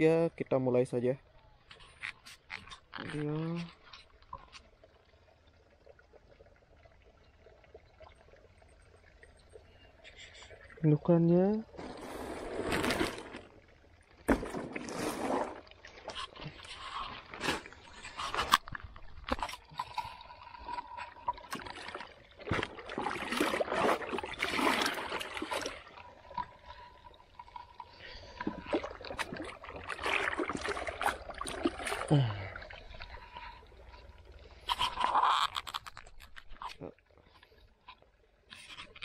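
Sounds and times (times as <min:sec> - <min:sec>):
pond water splashing: 0:01.0 - 0:39.0.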